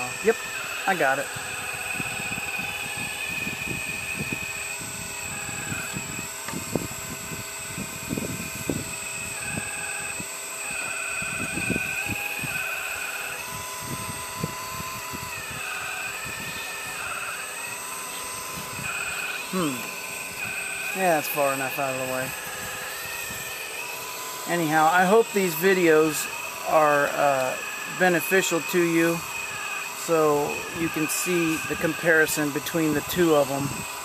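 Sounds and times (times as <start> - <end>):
hydraulic pump whining: 0.0 - 34.0.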